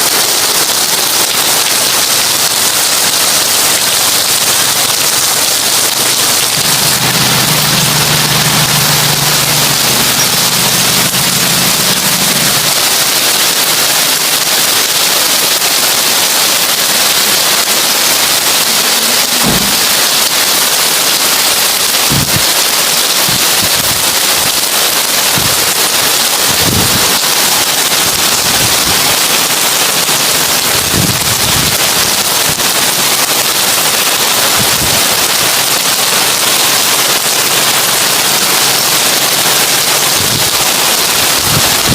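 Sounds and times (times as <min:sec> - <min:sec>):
heavy rain on a tin roof: 0:00.0 - 0:41.9.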